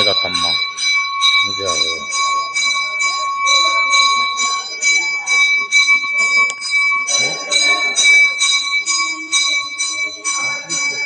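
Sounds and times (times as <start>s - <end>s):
temple bell ringing rapidly: 0.0s - 11.0s.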